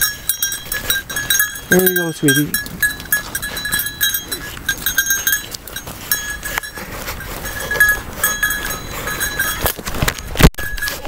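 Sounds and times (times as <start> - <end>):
hooves and footsteps on dry leaves: 0.0 - 11.0
thin high ringing: 0.0 - 11.0.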